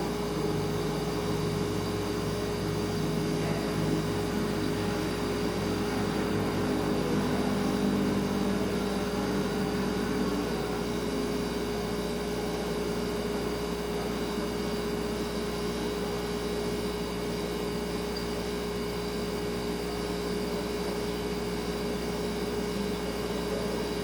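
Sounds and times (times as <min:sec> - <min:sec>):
refrigerator humming: 0:00.0 - 0:24.0.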